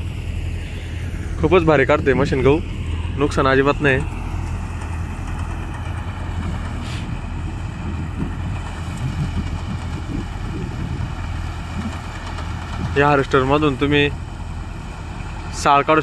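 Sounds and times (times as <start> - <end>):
harvester engine humming: 0.0 - 16.0.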